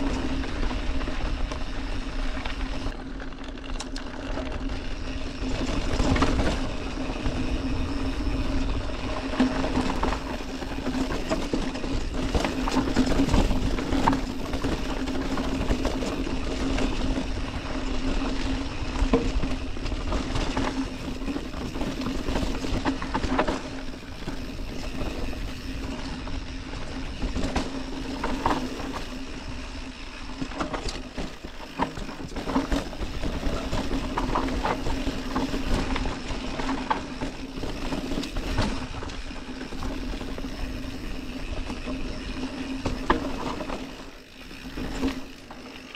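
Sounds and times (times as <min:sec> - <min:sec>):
bike tyres rolling over dirt: 0:00.0 - 0:45.9
bike knocks and rattles: 0:09.1 - 0:45.9.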